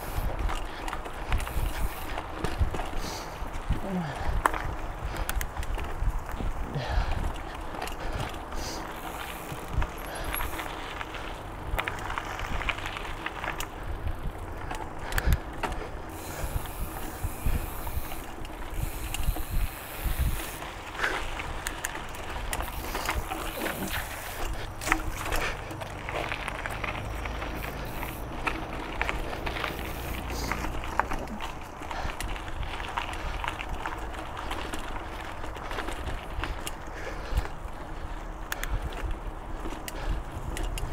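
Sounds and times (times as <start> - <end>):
wind rumble on microphone: 0.0 - 27.7, 28.3 - 40.9
bike tyre noise on dirt: 0.0 - 40.9.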